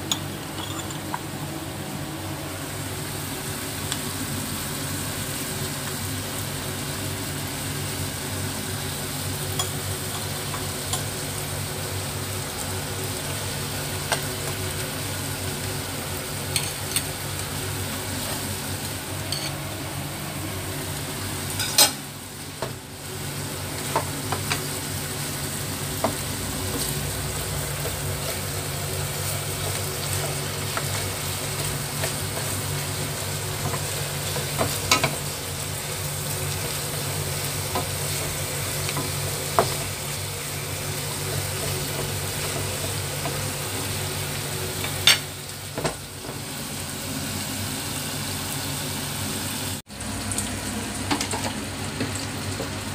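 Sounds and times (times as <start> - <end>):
meat sizzling in a pan: 2.7 - 52.9.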